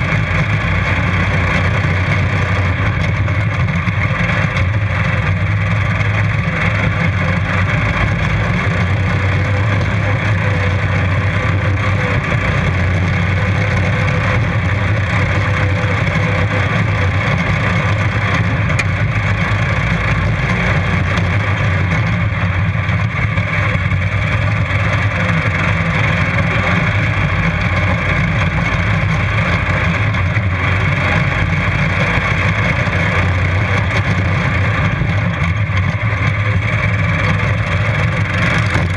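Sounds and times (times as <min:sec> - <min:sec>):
lawn mower engines running: 0:00.0 - 0:38.9.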